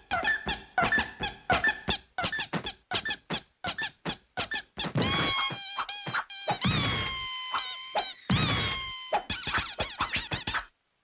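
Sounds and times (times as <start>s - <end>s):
squeaky hoof step effects: 0.0s - 10.7s.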